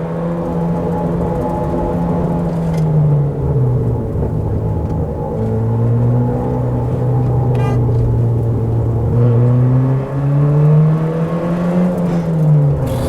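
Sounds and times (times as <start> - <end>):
car engine pulling: 0.0 - 13.0.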